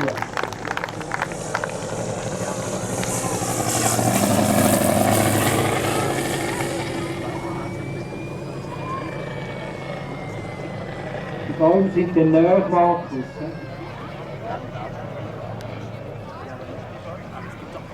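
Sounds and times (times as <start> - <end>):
model plane engine in flight: 0.0 - 17.9.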